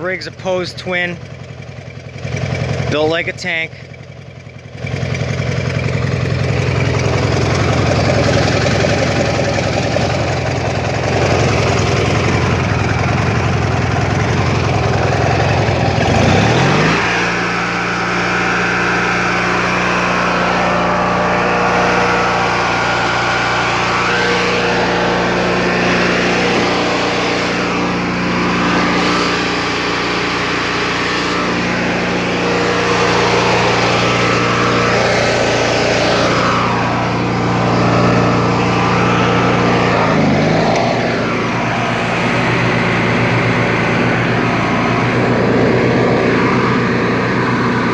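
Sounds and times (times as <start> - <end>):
garden tractor engine running: 0.0 - 47.9.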